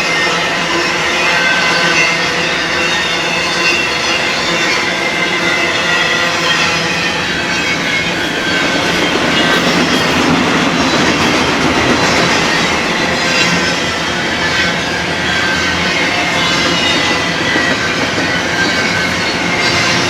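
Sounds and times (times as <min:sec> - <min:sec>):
high-pitched wheel squeal: 0:00.0 - 0:20.0
train wheels on track: 0:00.0 - 0:20.0.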